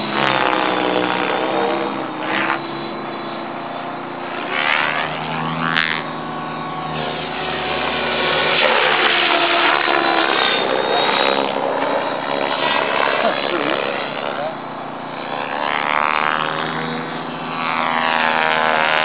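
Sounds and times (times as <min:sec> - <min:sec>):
rc helicopter motor whine: 0:00.0 - 0:19.0
rotor blades whooshing: 0:00.0 - 0:19.0.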